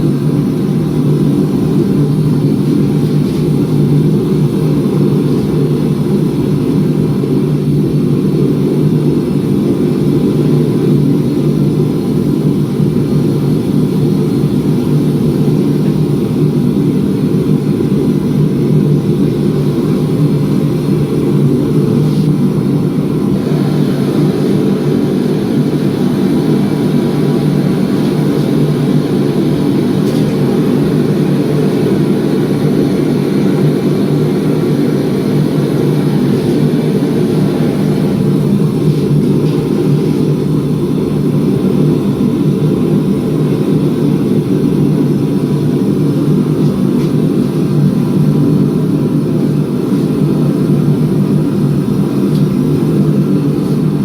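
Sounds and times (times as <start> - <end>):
shop equipment droning: 0.0 - 54.0.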